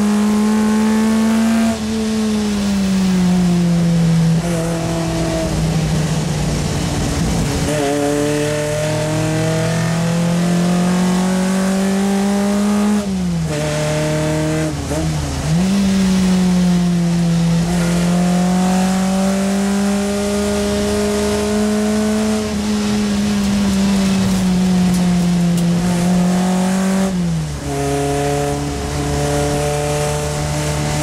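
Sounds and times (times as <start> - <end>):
car engine at racing speed: 0.0 - 31.0.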